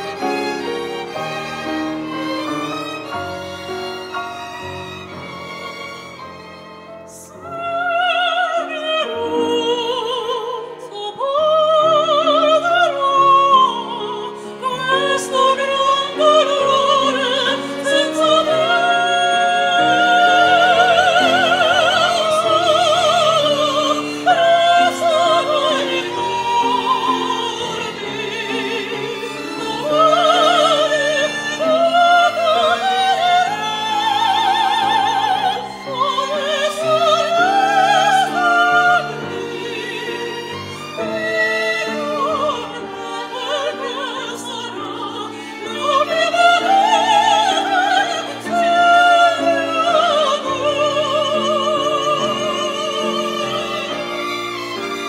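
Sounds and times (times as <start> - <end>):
piano: 0.0 - 55.0
string ensemble: 0.0 - 55.0
women singing operatic duet: 7.1 - 55.0.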